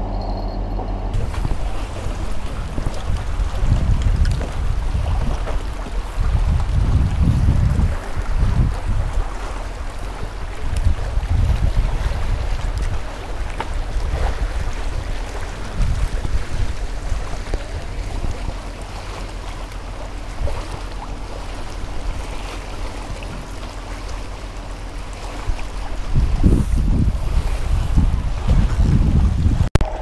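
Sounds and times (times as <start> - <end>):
wind buffeting microphone: 0.7 - 30.0
choppy sea water lapping: 1.1 - 30.0.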